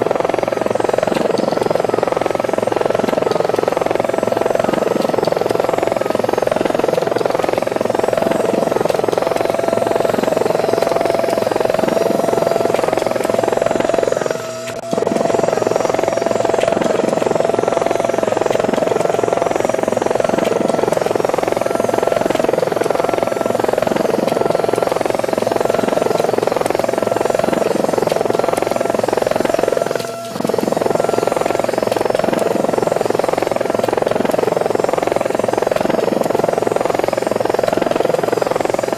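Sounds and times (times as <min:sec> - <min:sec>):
helicopter rotor buzzing: 0:00.0 - 0:38.9.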